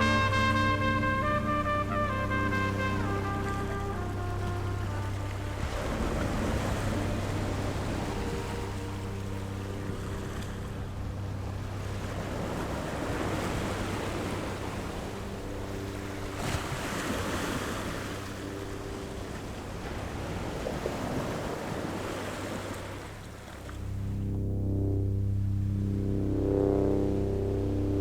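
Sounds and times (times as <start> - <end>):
ocean waves breaking on shore: 0.0 - 24.3.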